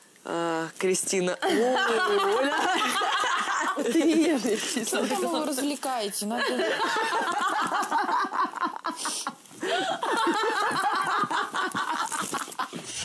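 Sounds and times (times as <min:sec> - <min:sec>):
women laughing: 0:01.4 - 0:05.6, 0:06.3 - 0:12.8.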